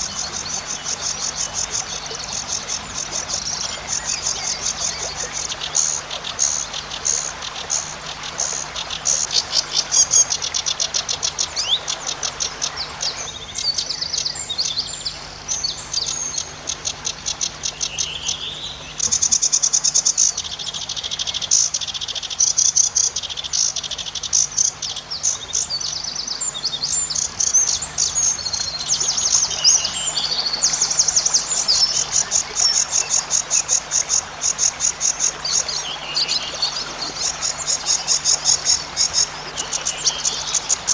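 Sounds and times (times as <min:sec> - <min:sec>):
bird singing buzzy trills: 0:00.0 - 0:40.9.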